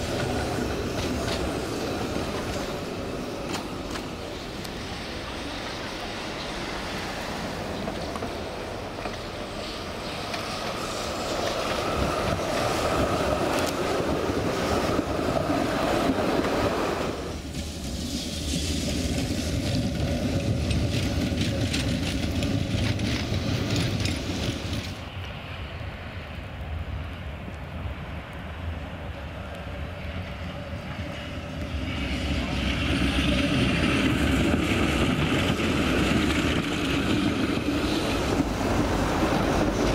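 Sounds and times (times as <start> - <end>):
traffic noise: 0.0 - 39.9
tram rolling on rails: 0.0 - 39.9.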